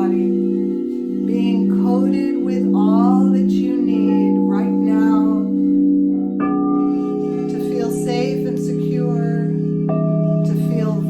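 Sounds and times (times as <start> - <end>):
crystal singing bowls ringing: 0.0 - 11.0.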